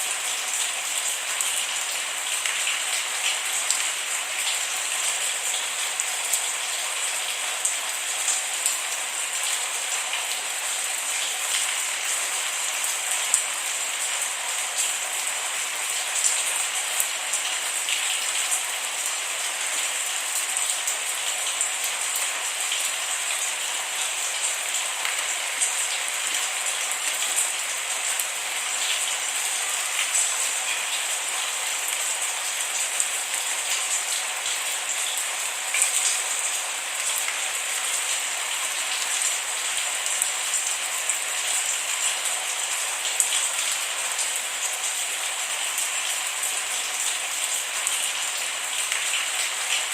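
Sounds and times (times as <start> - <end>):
rain ticking on hard surface: 0.0 - 49.9.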